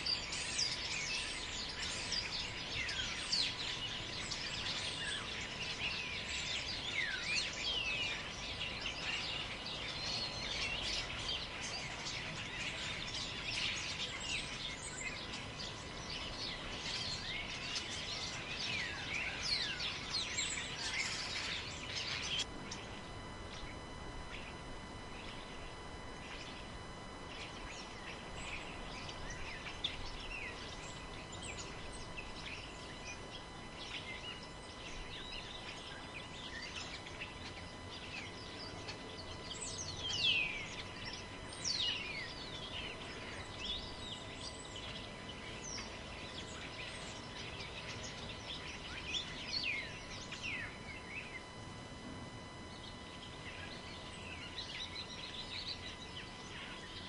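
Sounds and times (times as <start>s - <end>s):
birds chirping and whistling: 0.0s - 51.6s, 52.4s - 57.0s.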